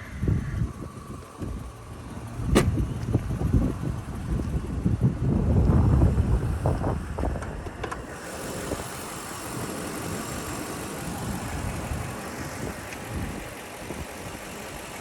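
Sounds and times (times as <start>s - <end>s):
wind on microphone: 0.0s - 14.4s
car engine idling: 0.0s - 15.0s.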